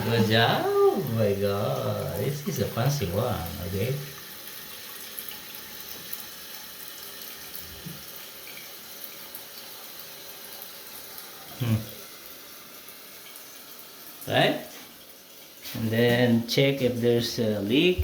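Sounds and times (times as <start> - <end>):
water hissing into toilet tank: 0.0 - 18.0.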